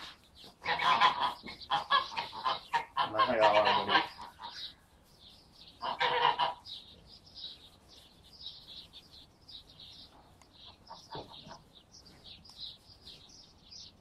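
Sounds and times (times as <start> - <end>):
soft rustles: 0.0 - 13.9
small birds chirping: 0.0 - 14.0.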